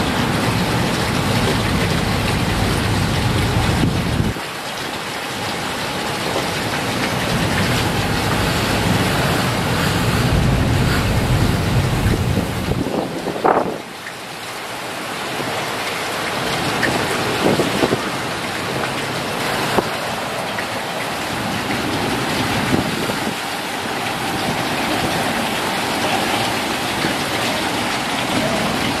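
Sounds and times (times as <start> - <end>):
heavy wind-driven rain: 0.0 - 29.0.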